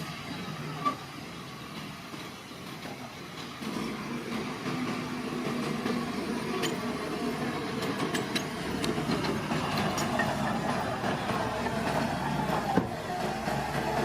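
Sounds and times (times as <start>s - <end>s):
bulldozer diesel engine running: 0.0s - 14.0s
metallic clanks of steel tracks: 0.0s - 14.0s.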